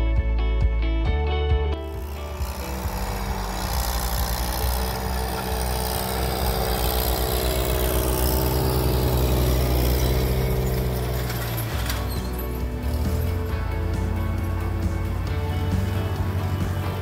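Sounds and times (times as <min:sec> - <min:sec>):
diesel tractor engine running: 0:01.8 - 0:17.0.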